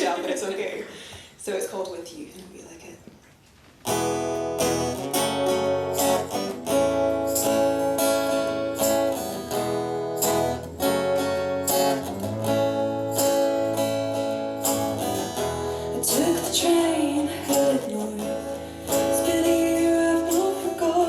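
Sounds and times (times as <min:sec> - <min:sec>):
acoustic guitar strumming: 0:03.8 - 0:21.0.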